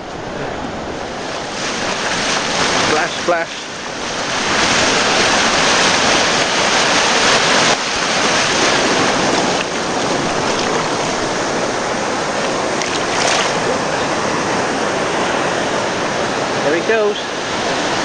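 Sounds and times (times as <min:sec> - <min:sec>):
surf breaking at shore: 0:00.0 - 0:18.0.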